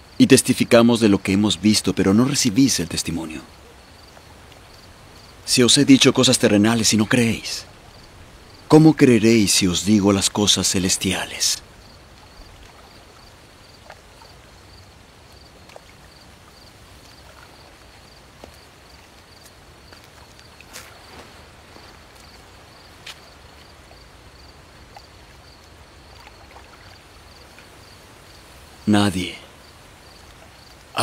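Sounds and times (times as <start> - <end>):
cricket chirping: 0.0 - 31.0
faint hiss: 0.0 - 31.0.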